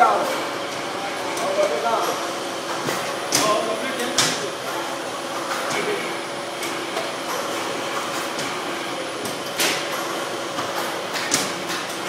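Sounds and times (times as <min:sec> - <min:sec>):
conveyor mechanical hum: 0:00.0 - 0:12.0.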